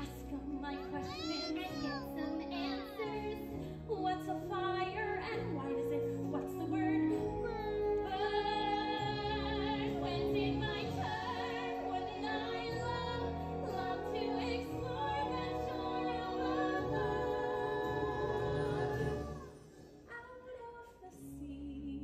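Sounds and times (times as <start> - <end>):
orchestral backing: 0.0 - 22.0.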